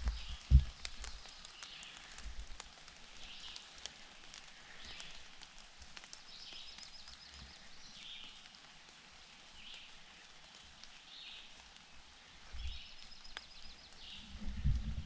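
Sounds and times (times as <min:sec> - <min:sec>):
faint clicks and crackles: 0:00.0 - 0:15.0.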